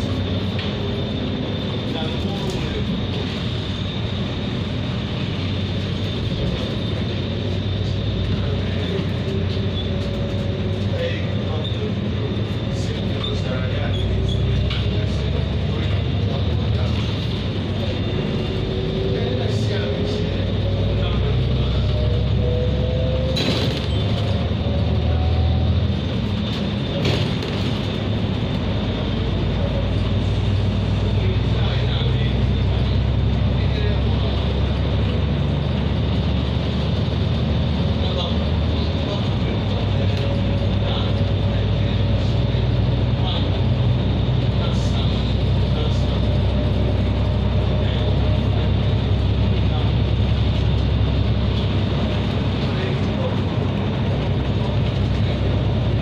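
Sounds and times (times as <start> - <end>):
bus engine rumble: 0.0 - 56.0
tyre and road noise: 0.0 - 56.0.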